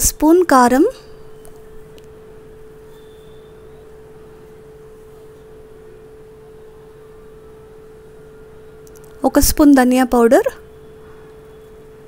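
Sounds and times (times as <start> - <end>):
steady pure tone: 0.0 - 12.0.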